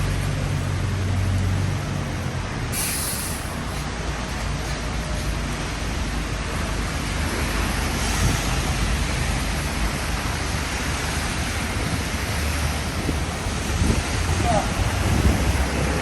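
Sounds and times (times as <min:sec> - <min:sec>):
heavy rain: 0:00.0 - 0:16.0
street traffic: 0:00.0 - 0:16.0.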